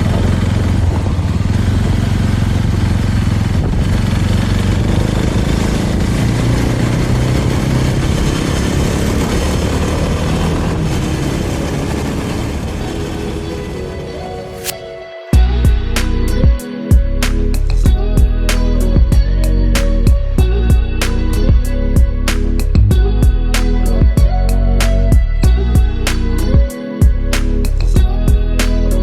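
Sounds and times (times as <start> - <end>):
small motorcycle engine running: 0.0 - 14.5, 15.4 - 29.0
road noise: 0.0 - 29.0
wind noise: 0.0 - 29.0.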